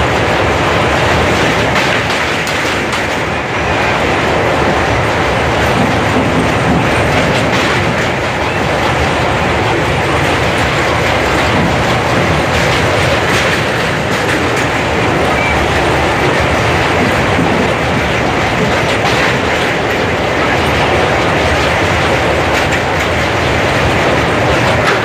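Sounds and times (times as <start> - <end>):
train wheels rumbling on bridge: 0.0 - 25.0.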